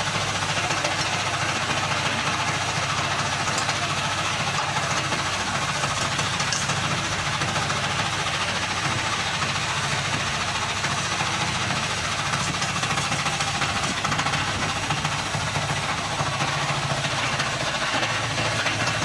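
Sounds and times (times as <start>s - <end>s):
diesel engine running steadily: 0.0s - 19.0s.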